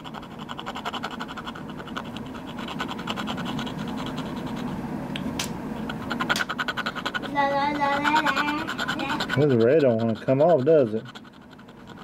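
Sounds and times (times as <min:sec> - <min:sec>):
metal tool scratching paper: 0:00.0 - 0:04.8, 0:05.8 - 0:12.0.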